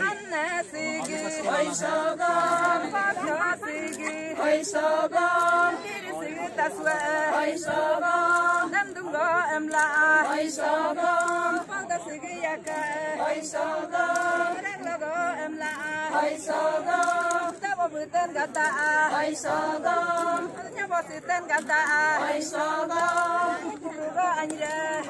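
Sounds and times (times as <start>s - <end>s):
women singing unaccompanied: 0.0s - 25.0s.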